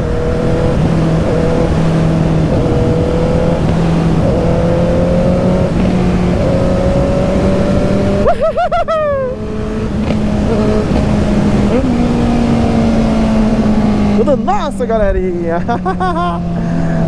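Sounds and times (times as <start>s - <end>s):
motorcycle engine with loud exhaust: 0.0s - 8.7s, 9.3s - 17.0s.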